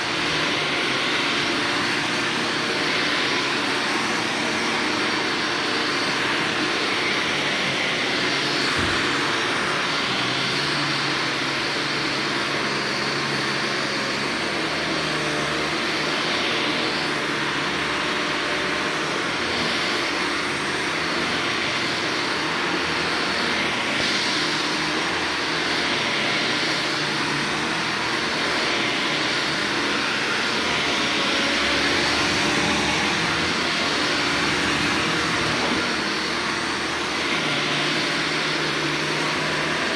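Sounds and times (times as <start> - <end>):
vacuum cleaner running over carpet: 0.0 - 39.9.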